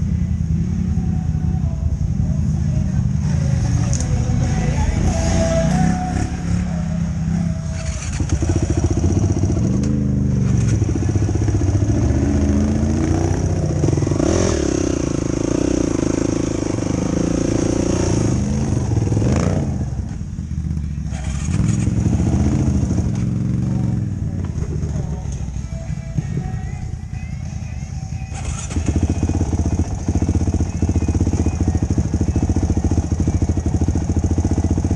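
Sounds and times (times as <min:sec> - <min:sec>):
quad engine revving: 0:03.2 - 0:25.6, 0:28.3 - 0:34.9.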